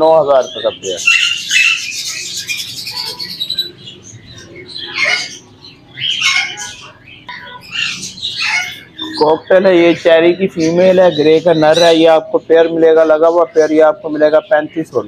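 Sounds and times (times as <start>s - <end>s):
parakeets squawking: 0.0s - 15.0s.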